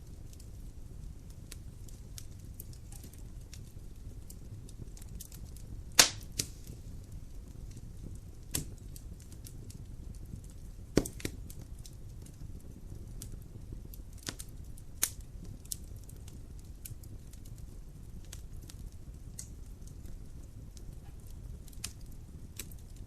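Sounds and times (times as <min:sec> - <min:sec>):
low rumble of flames: 0:00.0 - 0:23.0
sharp fire pops: 0:00.0 - 0:23.0
wood fire crackling: 0:00.0 - 0:23.0.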